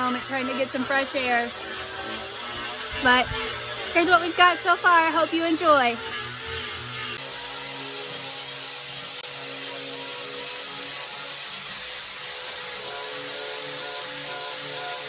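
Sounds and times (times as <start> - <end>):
angle grinder grinding metal: 0.0 - 15.0.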